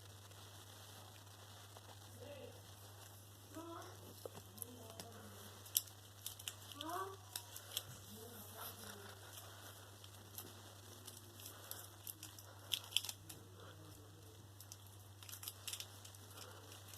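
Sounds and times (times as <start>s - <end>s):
cat playing with stick crackling: 0.0s - 16.9s.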